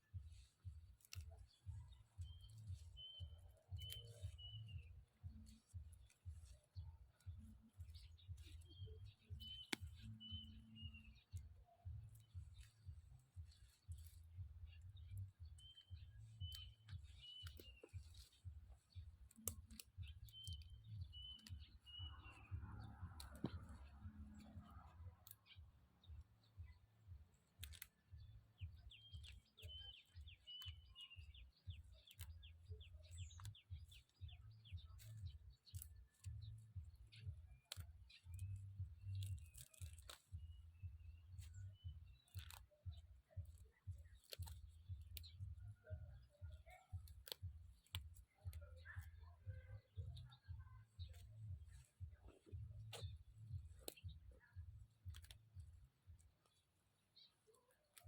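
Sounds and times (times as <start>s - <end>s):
faint scattered clicks and snaps: 0.0s - 58.0s
small bird chirping: 0.0s - 58.0s.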